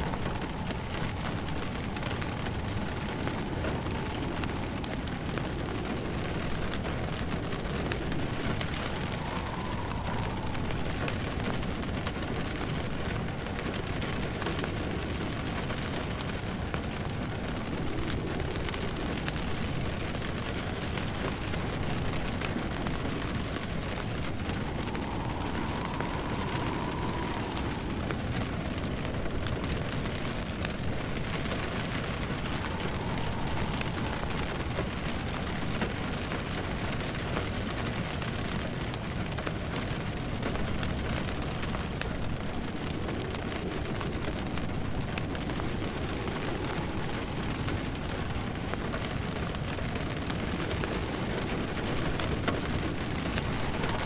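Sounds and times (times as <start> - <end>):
log fire crackling: 0.0 - 54.0
rain pattering: 0.0 - 54.0.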